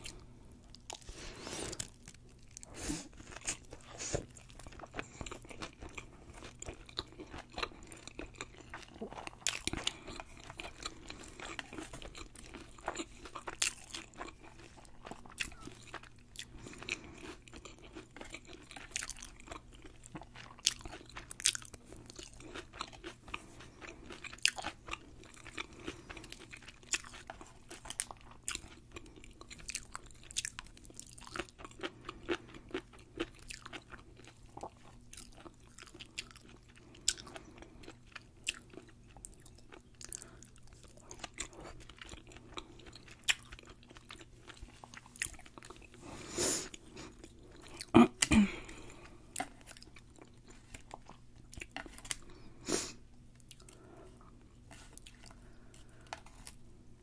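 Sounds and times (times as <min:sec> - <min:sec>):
crisp crunching of fried food: 0:00.0 - 0:56.8
person chewing: 0:00.0 - 0:56.8.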